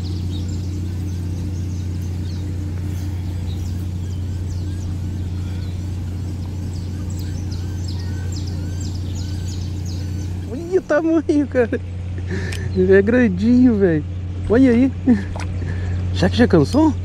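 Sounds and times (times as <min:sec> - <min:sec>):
birds chirping: 0:00.0 - 0:17.0
steady low motor hum: 0:00.0 - 0:17.0.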